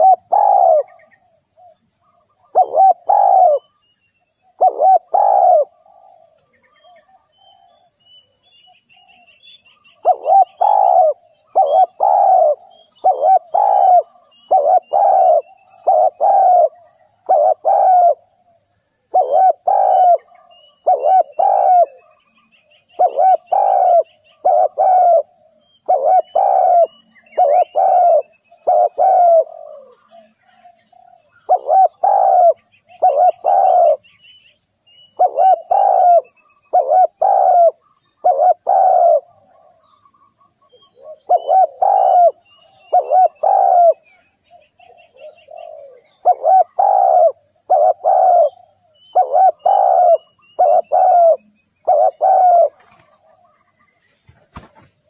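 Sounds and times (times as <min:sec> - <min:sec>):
dove cooing: 0:00.0 - 0:03.8, 0:04.5 - 0:08.0, 0:09.9 - 0:34.0, 0:35.2 - 0:40.0, 0:40.7 - 0:44.2, 0:44.8 - 0:55.0
small birds chirping: 0:00.0 - 0:55.0.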